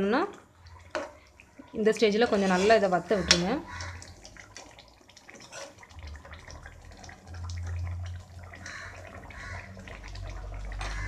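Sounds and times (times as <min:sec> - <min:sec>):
gravy simmering with bubbling pops: 0:00.0 - 0:11.0.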